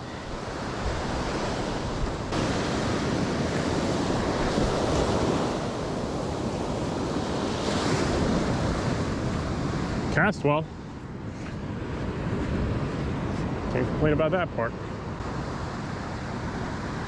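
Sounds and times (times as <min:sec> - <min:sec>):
ocean surf washing up beach: 0:00.0 - 0:17.0
wind buffeting microphone: 0:00.0 - 0:17.0.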